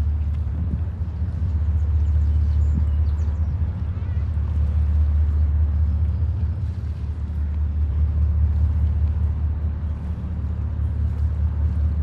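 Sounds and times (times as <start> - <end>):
ship diesel engines rumbling: 0.0 - 12.0.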